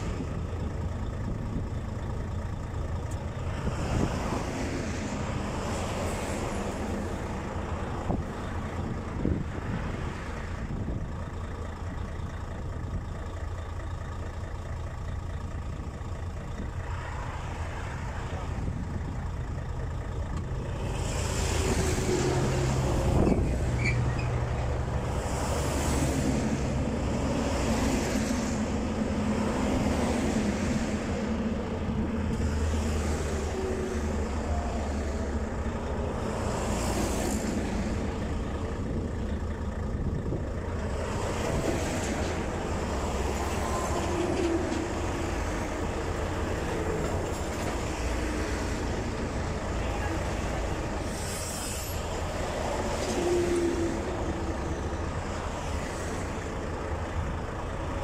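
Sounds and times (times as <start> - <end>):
cars and trucks rushing past: 0.0 - 11.9, 16.3 - 58.0
steady low traffic rumble: 0.0 - 58.0.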